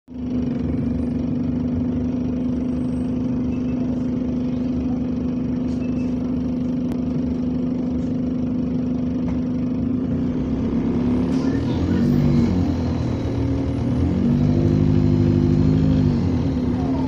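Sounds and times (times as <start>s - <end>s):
bus engine idling: 0.1s - 17.0s.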